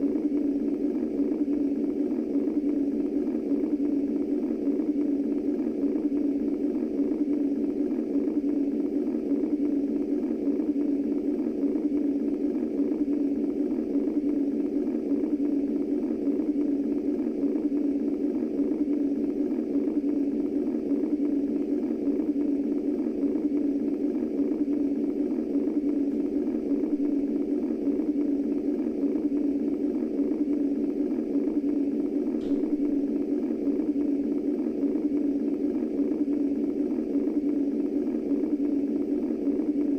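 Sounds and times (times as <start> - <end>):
muffled whooshing white noise: 0.0 - 39.9.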